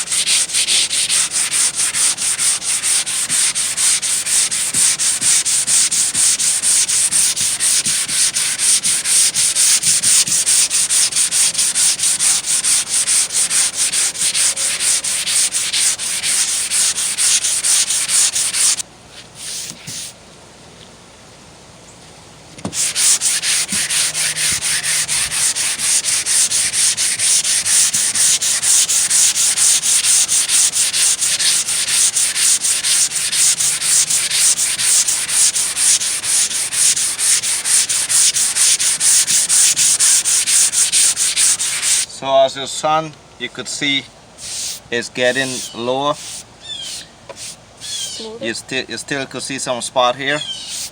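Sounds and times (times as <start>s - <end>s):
sandpaper rasping on filler: 0.0s - 20.2s, 22.7s - 42.1s, 44.4s - 48.0s, 50.6s - 50.9s.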